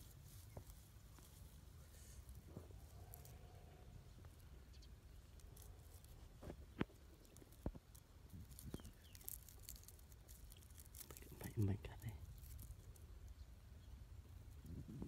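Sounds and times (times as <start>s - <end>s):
soft rustling: 0.0s - 13.4s.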